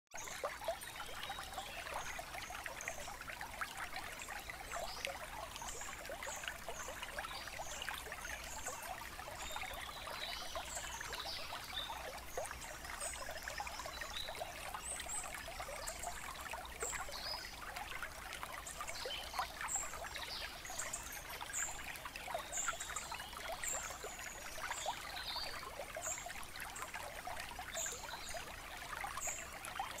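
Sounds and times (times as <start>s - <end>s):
water trickling and babbling: 0.1s - 30.0s.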